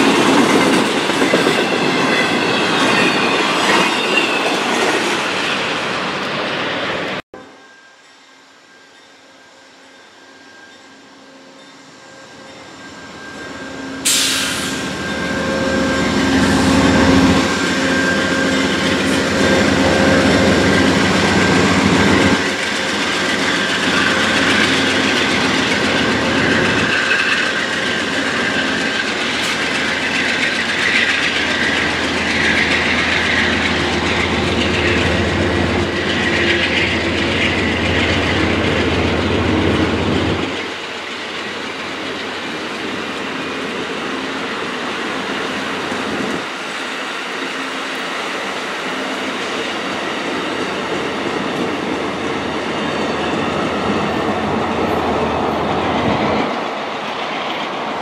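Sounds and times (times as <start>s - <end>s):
train cars rumbling by: 0.0s - 7.2s, 10.5s - 58.0s
diesel locomotive engine droning: 0.0s - 58.0s.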